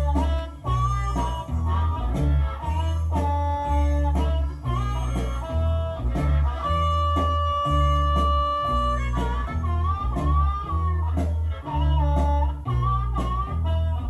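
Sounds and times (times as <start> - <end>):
blues-rock music: 0.0 - 14.0.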